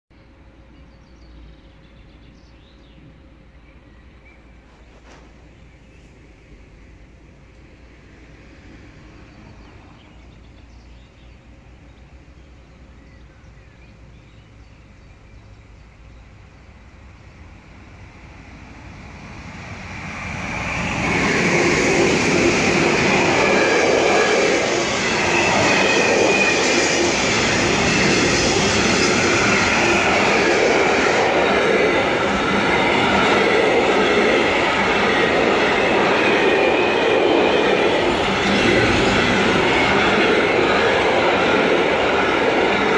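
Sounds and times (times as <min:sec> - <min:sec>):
freight train passing: 0:00.2 - 0:42.9.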